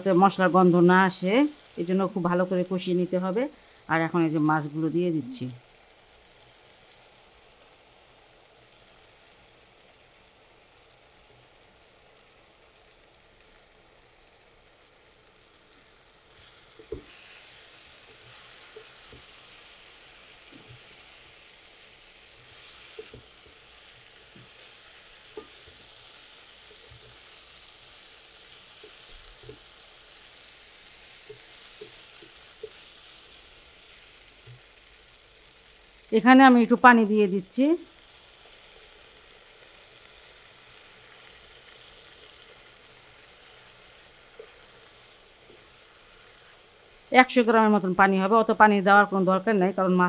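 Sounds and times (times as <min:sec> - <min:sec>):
fish sizzling in masala: 0:00.0 - 0:50.0.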